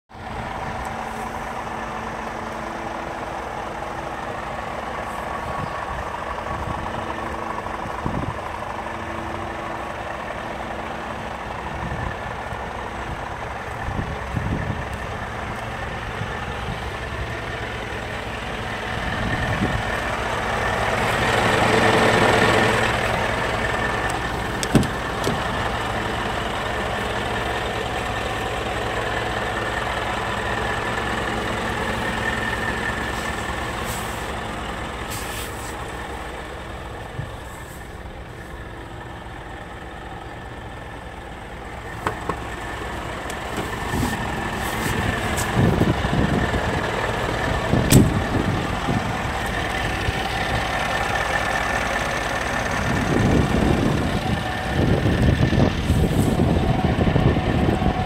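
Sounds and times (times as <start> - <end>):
diesel truck engine idling: 0.1 - 58.0.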